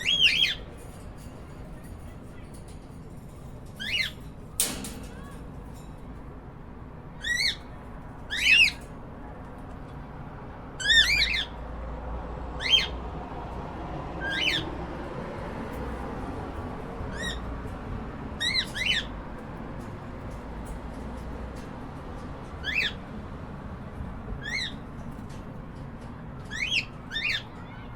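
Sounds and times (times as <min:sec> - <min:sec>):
low background hum: 0:00.0 - 0:27.9.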